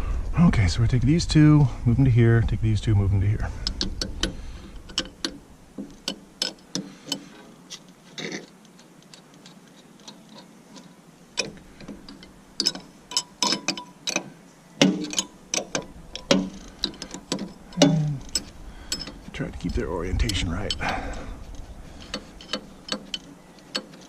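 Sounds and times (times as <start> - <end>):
tools clicking and tapping on metal: 3.6 - 24.0.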